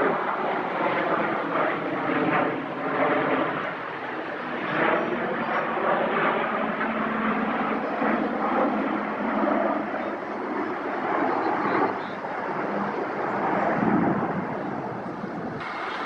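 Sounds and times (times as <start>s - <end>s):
airplane flying by: 0.0s - 16.0s.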